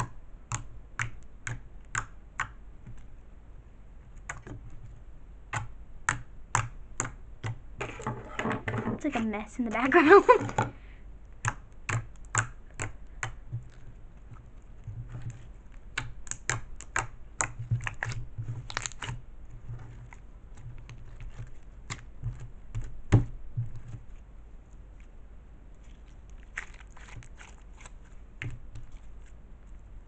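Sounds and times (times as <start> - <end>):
fingers squishing slime: 0.0 - 3.2, 4.0 - 7.7, 11.3 - 30.0.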